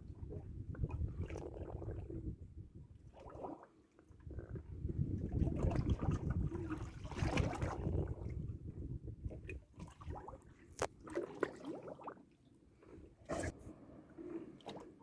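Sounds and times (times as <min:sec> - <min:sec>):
water sloshing and gurgling: 0:00.0 - 0:15.0.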